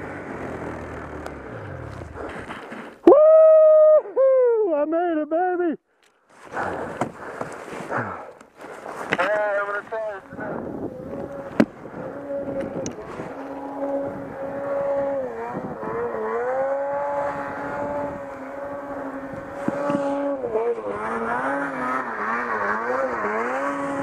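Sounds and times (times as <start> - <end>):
snowmobile engine revving: 0.0 - 3.9, 6.4 - 24.0.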